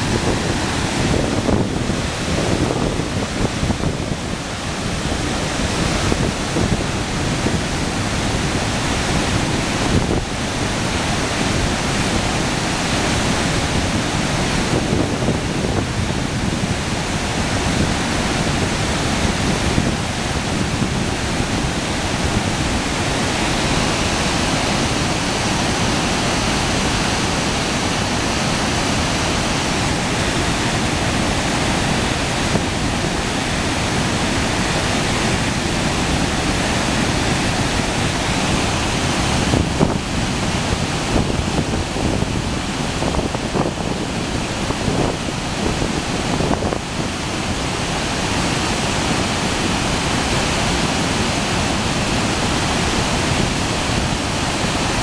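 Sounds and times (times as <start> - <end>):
river rapids roaring: 0.0 - 55.0.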